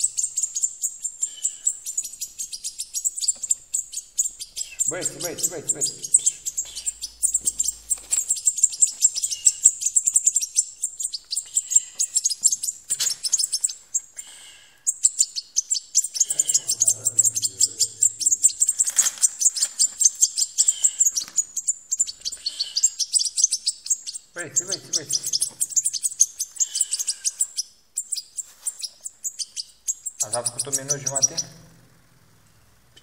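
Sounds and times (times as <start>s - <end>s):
chicks chirping begging calls: 0.0s - 31.8s.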